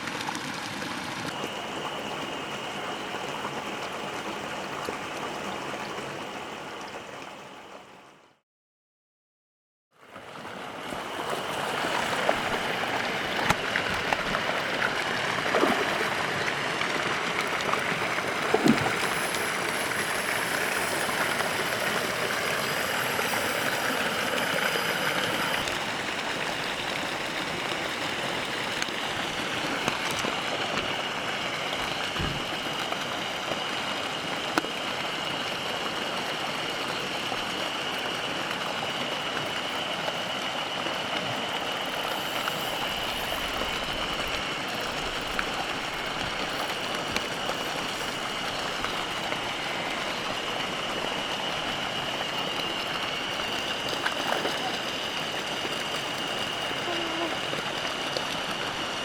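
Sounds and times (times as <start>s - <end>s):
running water rushing: 10.2s - 59.0s.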